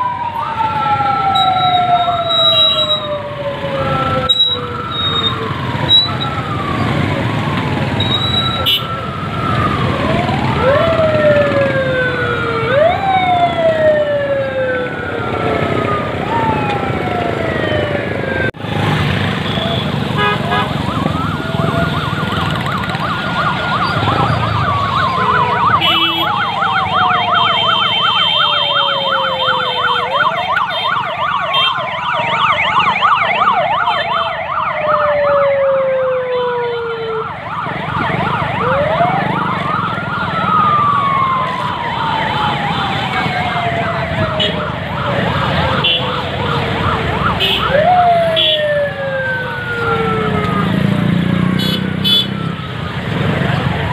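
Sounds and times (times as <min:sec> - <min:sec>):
police sirens wailing: 0:00.0 - 0:53.9
siren yelp: 0:00.0 - 0:53.9.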